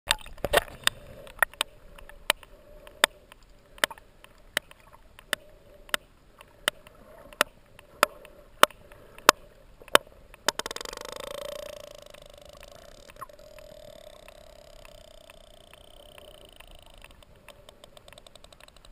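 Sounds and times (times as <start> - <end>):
whale clicks underwater: 0.1 - 18.9.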